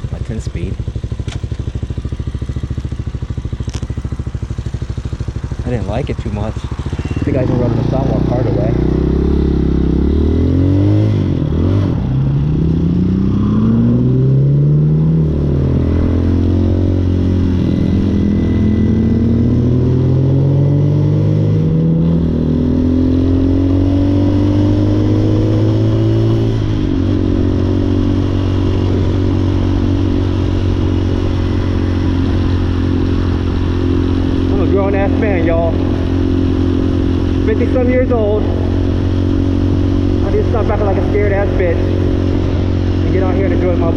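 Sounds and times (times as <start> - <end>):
dirt bike engine shifting gears: 1.0 - 41.5.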